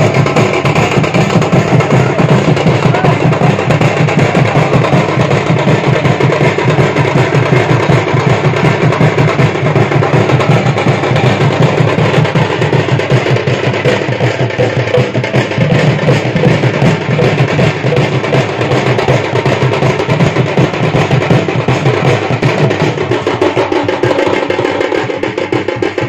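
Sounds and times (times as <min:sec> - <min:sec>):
loud drum music: 0:00.0 - 0:26.0.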